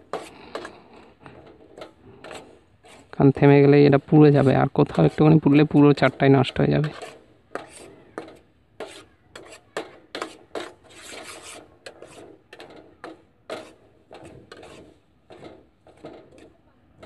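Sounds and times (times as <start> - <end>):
spatula scraping in a wok: 0.0 - 17.0.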